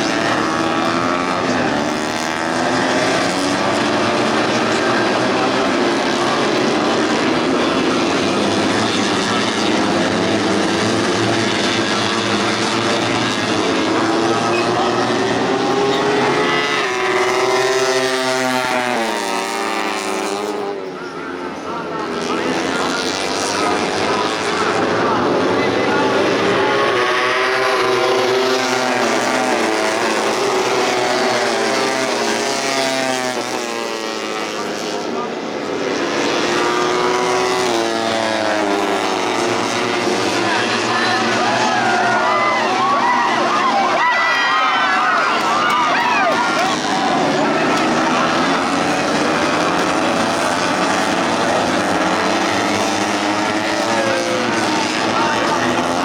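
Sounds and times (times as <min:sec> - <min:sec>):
motorcycles revving high: 0:00.0 - 0:56.0.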